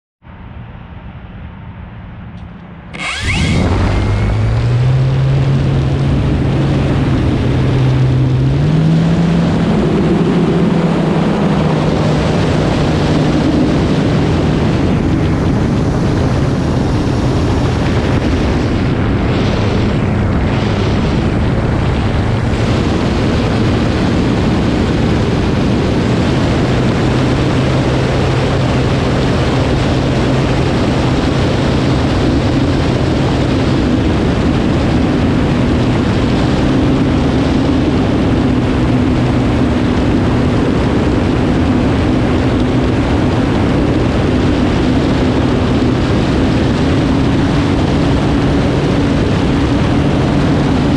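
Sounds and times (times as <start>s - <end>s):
electric motor and propeller: 2.4s - 50.9s
rush of prop wash and air: 2.9s - 50.9s.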